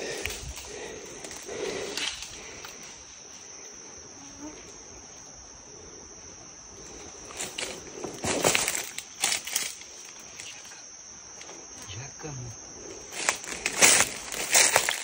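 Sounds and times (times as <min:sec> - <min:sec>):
crackles and rustles: 0:00.0 - 0:05.2, 0:06.7 - 0:15.0
insects buzzing: 0:00.0 - 0:15.0.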